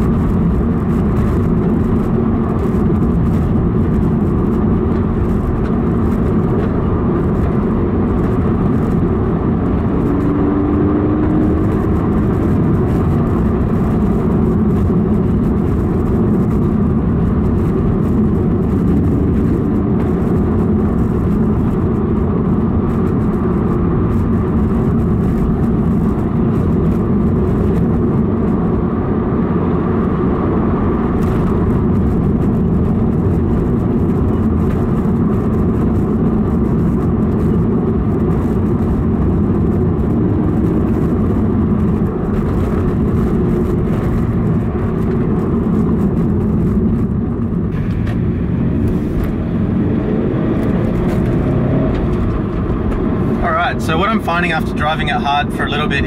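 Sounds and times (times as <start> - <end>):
car engine cruising: 0.0 - 56.0
road noise inside car: 0.0 - 56.0.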